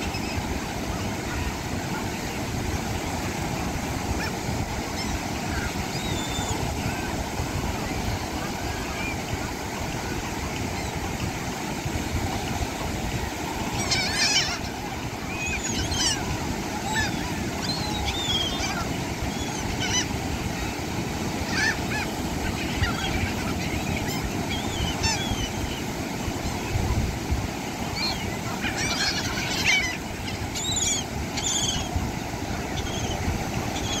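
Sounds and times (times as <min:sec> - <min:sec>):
gulls calling: 0:00.0 - 0:34.0
surf washing: 0:00.0 - 0:34.0.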